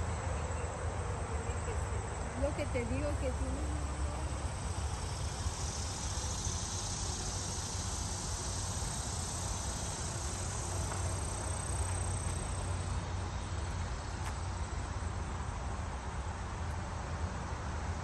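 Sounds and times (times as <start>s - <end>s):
insects chorus: 0.0s - 18.0s.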